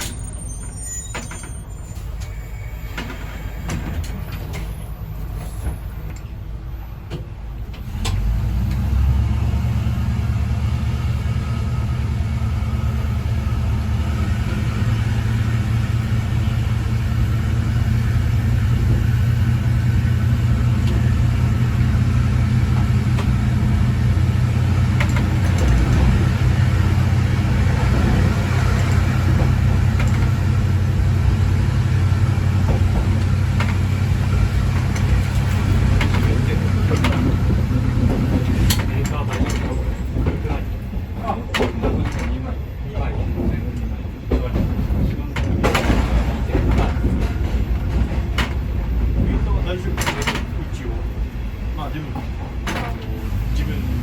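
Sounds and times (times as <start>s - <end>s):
diesel railcar engine droning: 0.0s - 54.0s.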